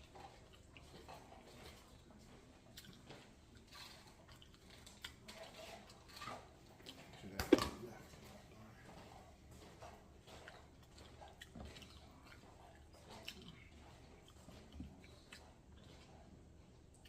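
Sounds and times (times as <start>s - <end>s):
soft chewing: 0.0s - 17.0s.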